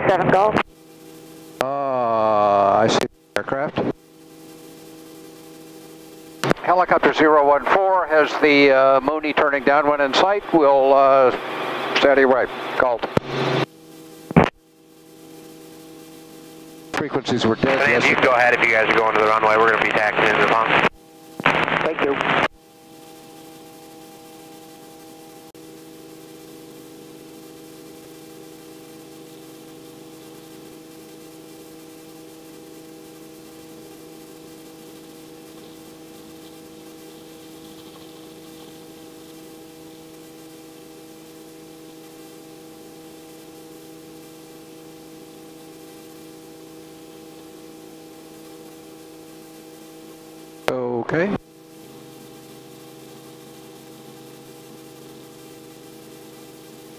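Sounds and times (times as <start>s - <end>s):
constant hiss: 0.0s - 56.9s
steady electrical hum with tones: 0.0s - 56.9s.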